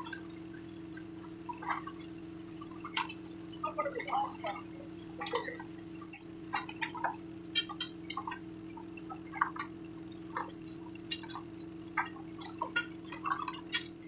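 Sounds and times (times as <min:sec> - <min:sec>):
steady low hum: 0:00.0 - 0:14.0
water dripping and splashing: 0:00.0 - 0:14.0.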